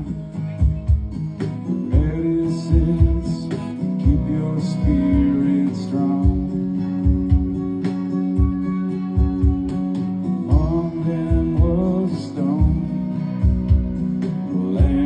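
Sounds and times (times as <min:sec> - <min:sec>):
drum beat thumping: 0:00.0 - 0:15.0
guitar playing: 0:00.0 - 0:15.0.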